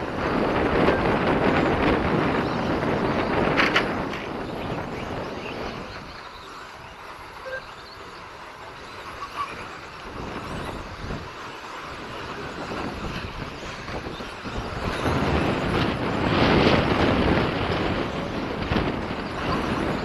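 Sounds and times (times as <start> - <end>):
model trucks racing: 0.0 - 20.0
wind rumbling on microphone: 0.0 - 20.0.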